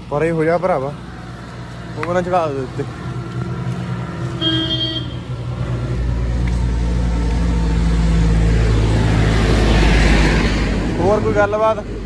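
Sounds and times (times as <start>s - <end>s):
tractor diesel engine running: 0.0s - 9.9s.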